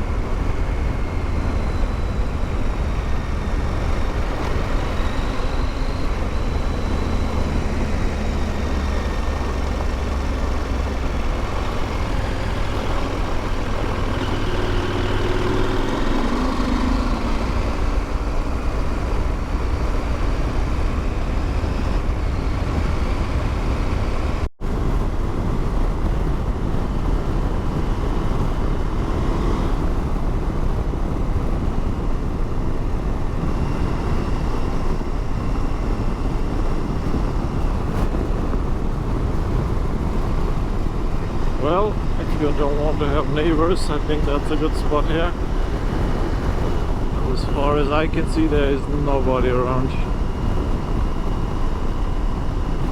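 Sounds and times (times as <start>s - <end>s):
motorcycle engine running: 0.0s - 52.9s
wind rush in helmet: 0.0s - 52.9s.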